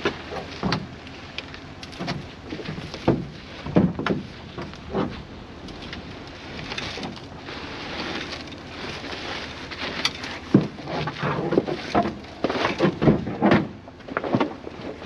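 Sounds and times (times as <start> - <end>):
irregular knocks and scrapes: 0.0 - 15.0
loose material shifting and crunching: 0.0 - 15.0.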